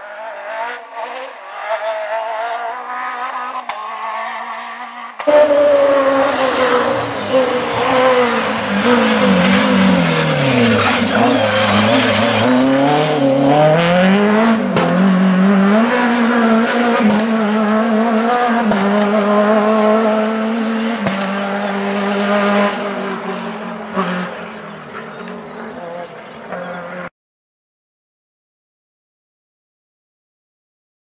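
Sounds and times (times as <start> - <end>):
rally car engine accelerating: 0.0 - 27.1.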